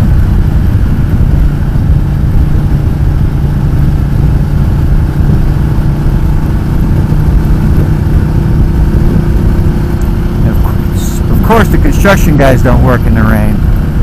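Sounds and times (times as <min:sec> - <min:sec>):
heavy fluctuating low rumble: 0:00.0 - 0:14.0
motorcycle engine at low revs: 0:00.0 - 0:14.0.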